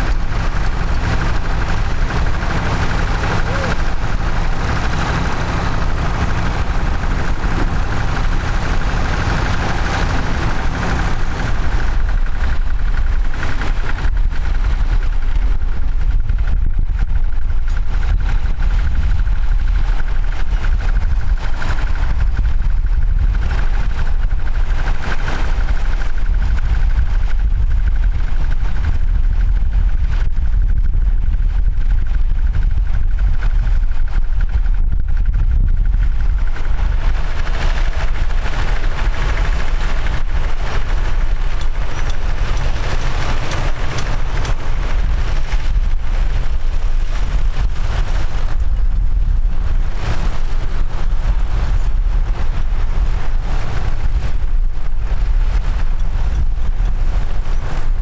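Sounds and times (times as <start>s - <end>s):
tractor engines running under load: 0.0s - 58.0s.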